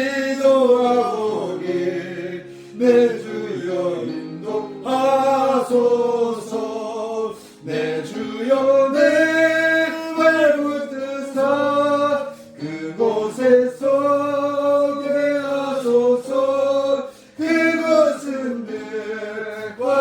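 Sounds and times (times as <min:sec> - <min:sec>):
voices singing a slow hymn: 0:00.0 - 0:20.0.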